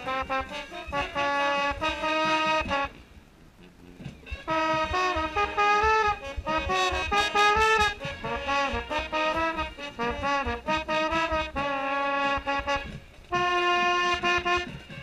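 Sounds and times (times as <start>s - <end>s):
marching band brass: 0.0s - 15.0s.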